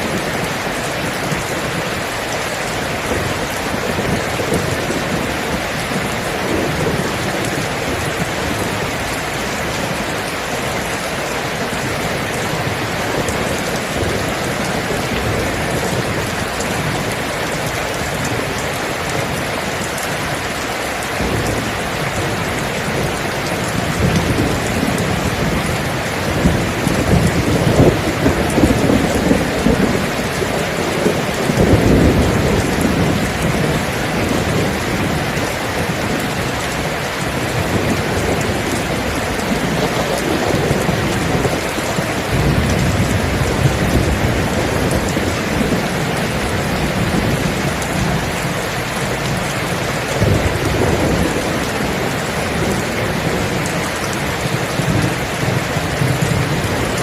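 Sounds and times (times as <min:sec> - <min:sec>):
steady rain falling: 0:00.0 - 0:57.0
thunder rumbling: 0:00.0 - 0:57.0.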